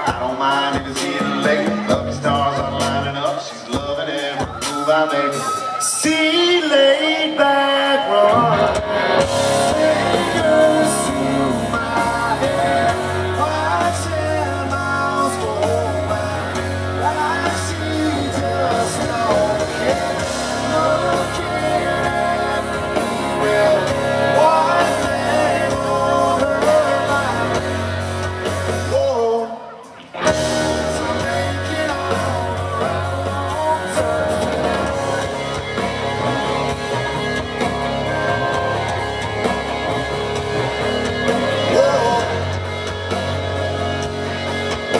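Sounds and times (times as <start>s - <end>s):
man singing: 0.0s - 39.0s, 41.1s - 43.0s
live country rock band: 0.0s - 44.9s.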